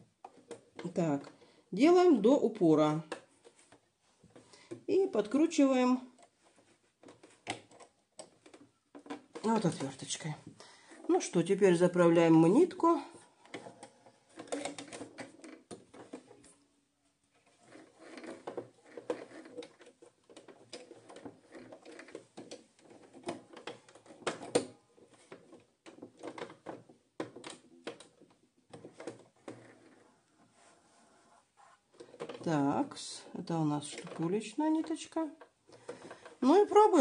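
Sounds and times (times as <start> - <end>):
small clicks and rustles of threading: 0.0 - 1.7, 3.0 - 11.3, 12.5 - 16.7, 17.3 - 37.0.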